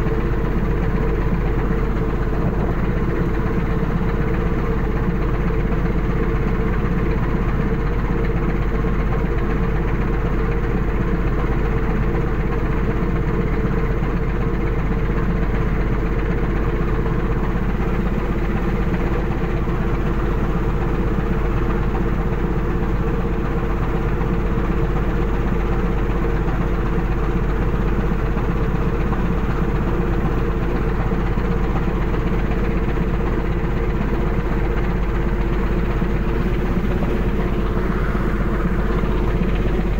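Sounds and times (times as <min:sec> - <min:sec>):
boat engine and machinery drone: 0:00.0 - 0:39.9.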